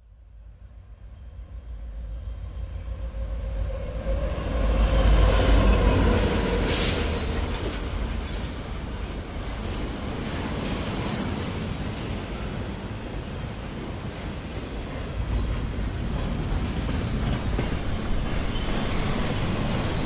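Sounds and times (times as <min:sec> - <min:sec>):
train rumbling past: 0:00.2 - 0:20.0.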